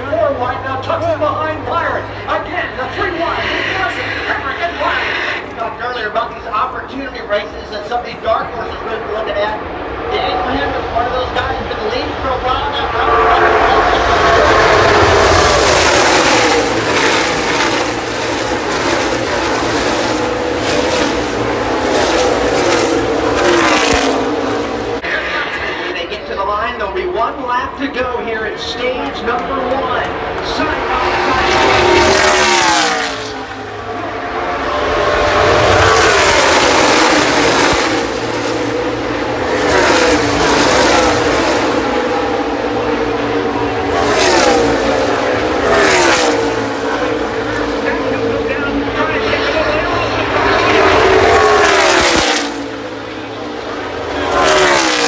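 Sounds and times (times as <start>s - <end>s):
race cars passing at full throttle: 0.0s - 55.0s.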